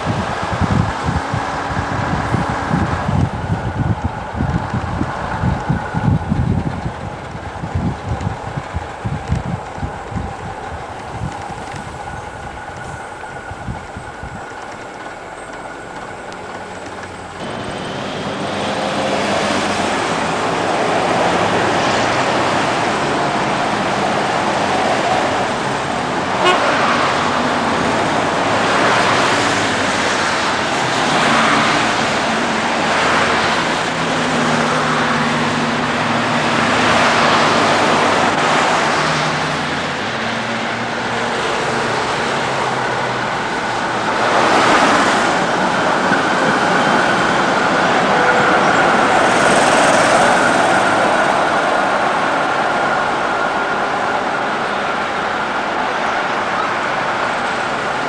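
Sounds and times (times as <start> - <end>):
street traffic noise: 0.0 - 58.0
tram approaching: 0.0 - 58.0.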